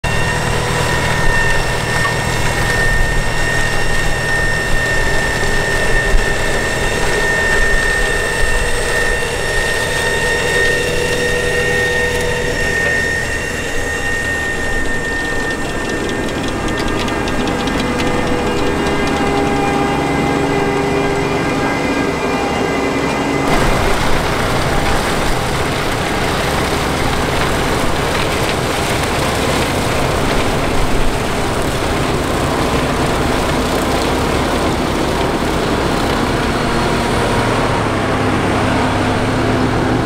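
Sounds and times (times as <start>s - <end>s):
high machinery whine: 0.0s - 40.0s
tractor engines running: 0.0s - 40.0s.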